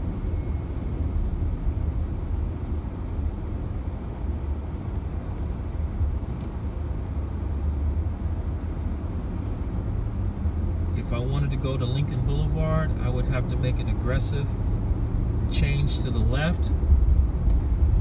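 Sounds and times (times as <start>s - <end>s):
car driving interior rumble: 0.0s - 18.0s.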